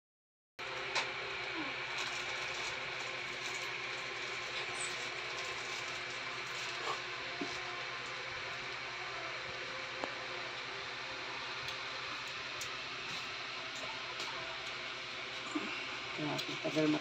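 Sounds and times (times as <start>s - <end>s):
mechanical hum with hiss: 0.6s - 17.0s.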